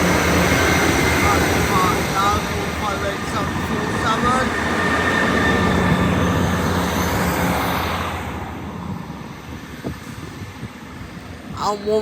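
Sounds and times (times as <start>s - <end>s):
diesel train engines humming: 0.0s - 12.0s.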